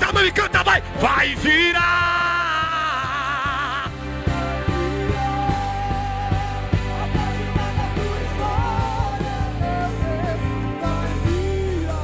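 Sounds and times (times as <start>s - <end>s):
band playing drums and bass: 0.0s - 12.0s
person singing melody: 0.0s - 12.0s.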